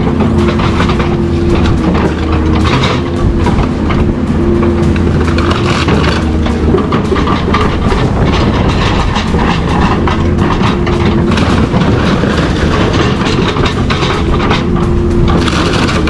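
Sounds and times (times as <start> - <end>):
low machine hum: 0.0 - 16.0
metal clattering and grinding: 0.0 - 16.0.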